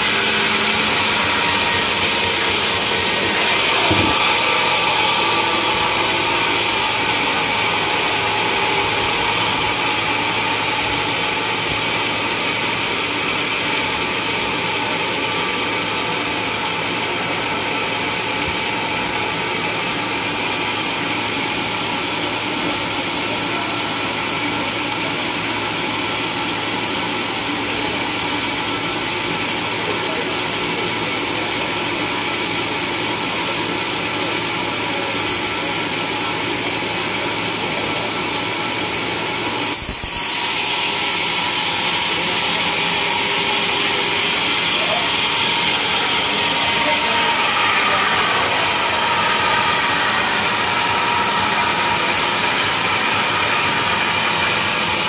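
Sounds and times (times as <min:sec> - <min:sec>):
band saw blade humming and whining: 0:00.0 - 0:55.0.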